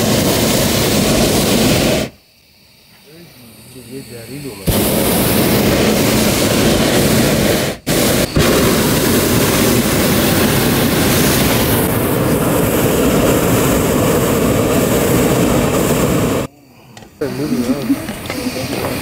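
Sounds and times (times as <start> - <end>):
propane burner blast: 0.0 - 2.2, 2.9 - 16.5, 17.2 - 19.0.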